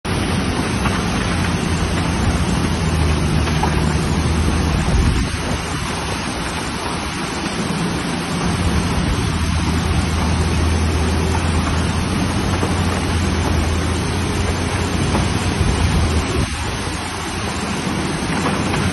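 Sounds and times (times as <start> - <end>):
excavator diesel engine hum: 0.1 - 18.9
floodwater rushing: 0.1 - 18.9.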